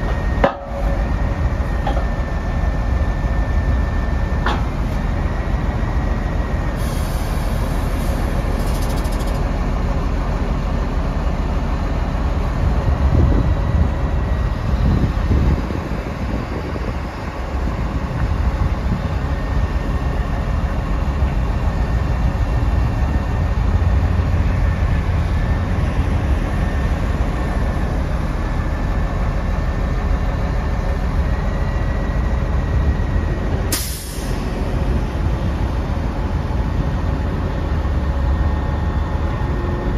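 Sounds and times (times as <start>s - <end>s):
faint steady whine: 0.0s - 39.9s
truck diesel engine running: 0.0s - 39.9s.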